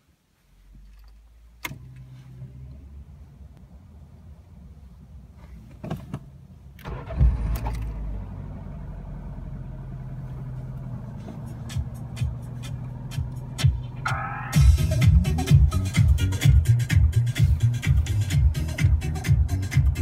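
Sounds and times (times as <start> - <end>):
car engine starting and idling: 0.6 - 20.0.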